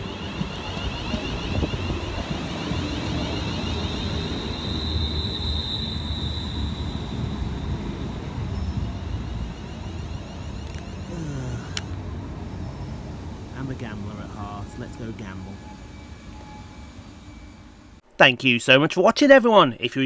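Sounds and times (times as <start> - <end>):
high electric whine: 0.0 - 18.0
electric train rumble: 0.0 - 18.1.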